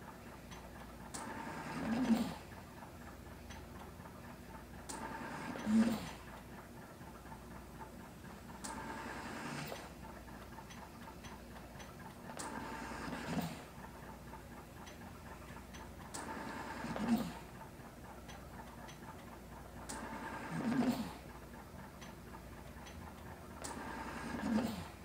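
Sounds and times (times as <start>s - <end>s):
faint ventilator clicks: 0.0s - 25.0s.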